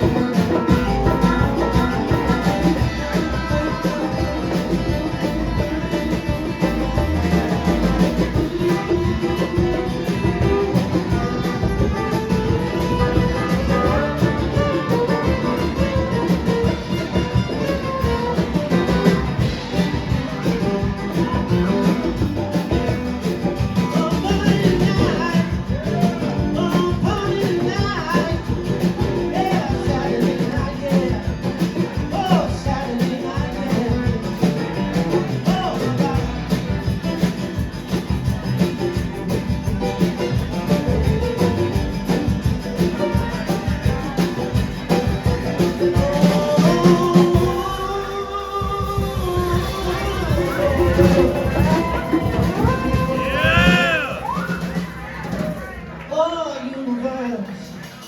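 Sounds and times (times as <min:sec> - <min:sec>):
live band playing guitar-led song: 0:00.0 - 0:58.0.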